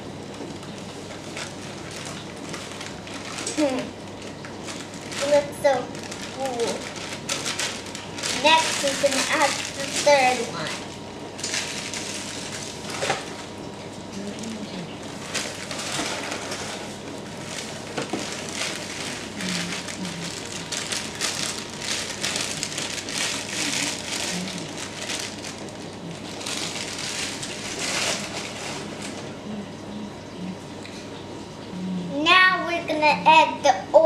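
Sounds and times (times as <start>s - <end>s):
plastic bag crinkling: 0.3s - 13.6s, 14.4s - 29.4s.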